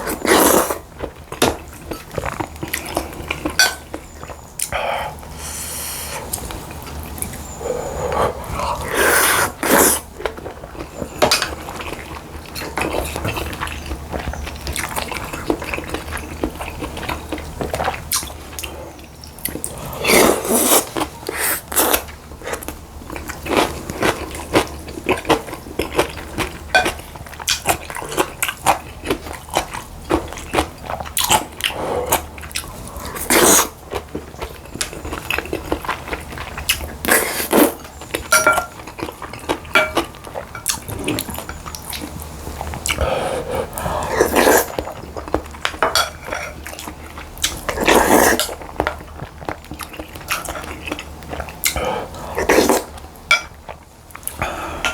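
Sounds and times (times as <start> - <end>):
person chewing and crunching: 0.0 - 54.9.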